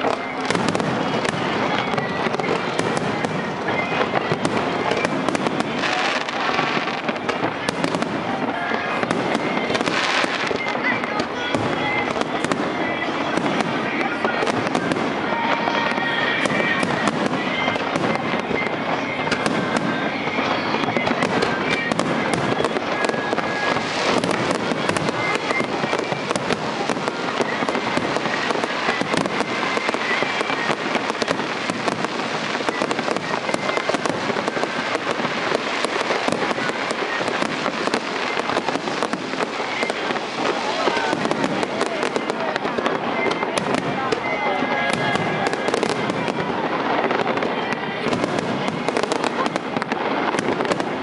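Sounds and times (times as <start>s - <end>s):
fireworks crackling and banging: 0.0s - 51.0s.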